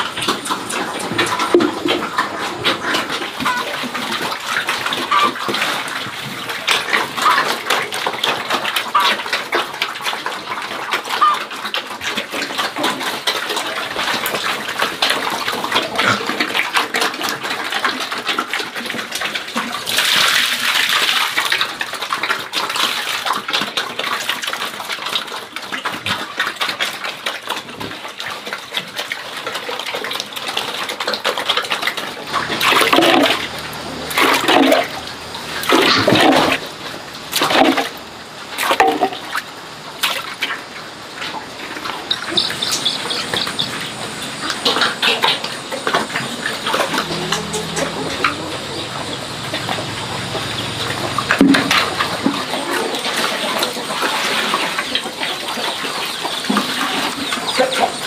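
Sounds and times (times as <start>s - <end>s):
running water splashing: 0.0s - 58.0s.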